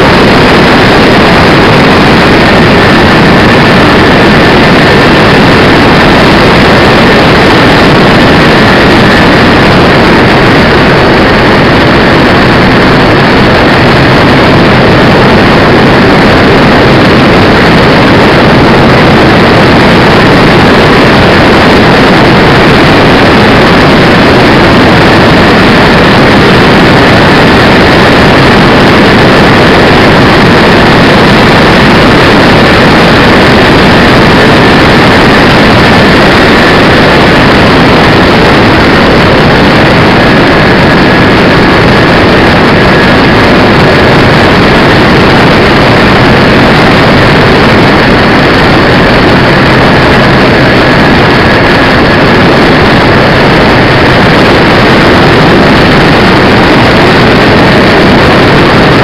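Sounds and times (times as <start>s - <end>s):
faint high whine: 0.0s - 59.0s
model plane engines droning: 0.0s - 59.0s
rushing air: 0.0s - 59.0s.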